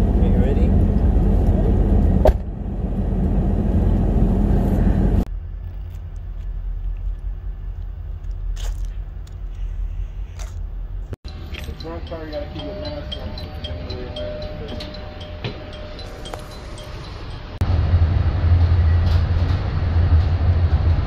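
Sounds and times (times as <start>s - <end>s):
car rumble from inside cabin: 0.0s - 21.0s.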